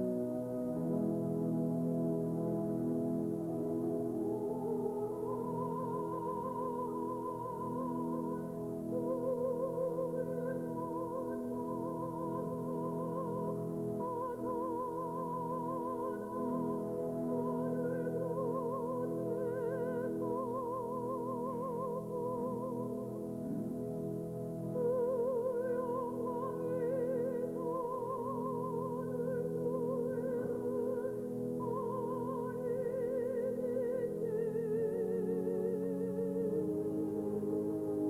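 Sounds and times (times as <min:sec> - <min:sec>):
organ accompaniment: 0:00.0 - 0:38.0
choir singing: 0:03.5 - 0:38.0.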